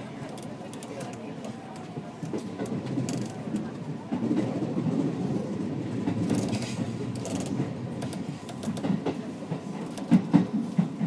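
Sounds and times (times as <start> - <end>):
train rumbling on track: 0.0 - 11.0
wheels clicking on rails: 0.0 - 11.0.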